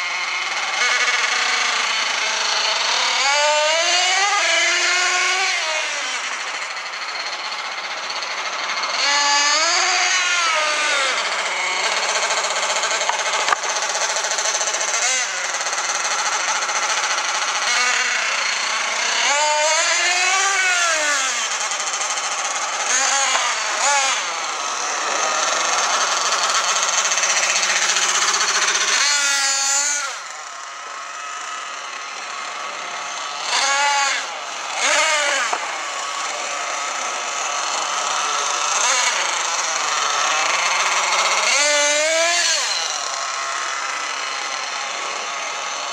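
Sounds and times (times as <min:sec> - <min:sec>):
rc truck engine revving: 0:00.0 - 0:45.9.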